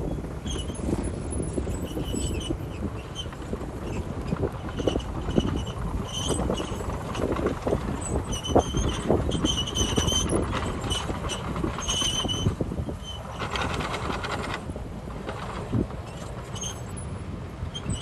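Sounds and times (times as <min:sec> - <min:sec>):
bulldozer engine rumble: 0:00.0 - 0:18.0
bulldozer tracks knocking and squealing: 0:00.0 - 0:18.0.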